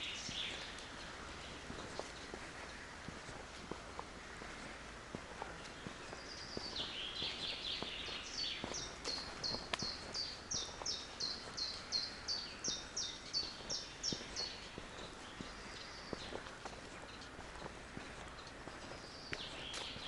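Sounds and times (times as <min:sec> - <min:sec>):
faint footsteps on forest path: 0:00.0 - 0:20.0
songbird singing: 0:00.0 - 0:20.0.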